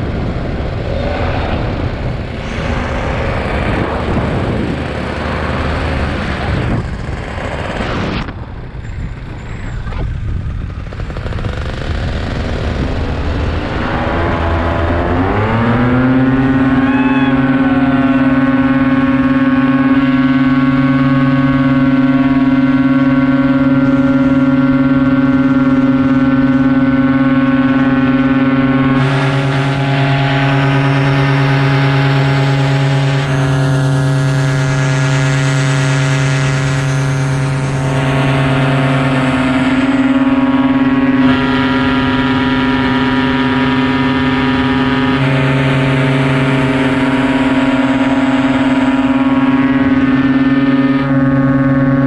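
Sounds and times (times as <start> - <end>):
paramotor engine and propeller drone: 0.0 - 52.0.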